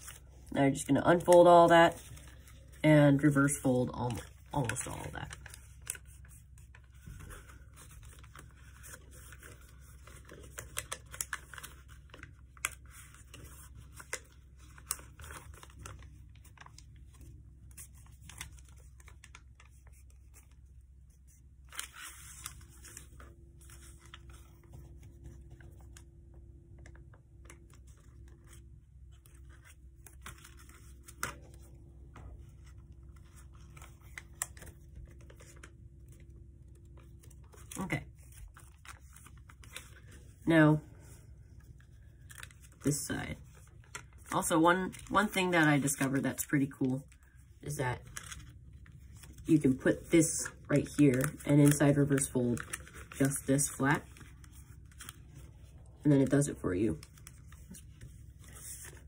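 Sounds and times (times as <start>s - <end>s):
paper crinkling and folding: 0.0s - 59.0s.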